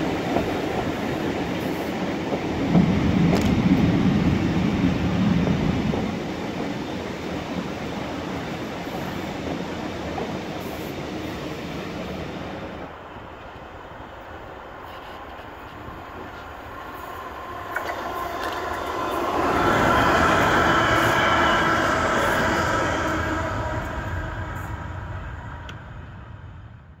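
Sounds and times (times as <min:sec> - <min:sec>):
train running noise: 0:00.0 - 0:26.8
passing train rush: 0:00.0 - 0:27.0.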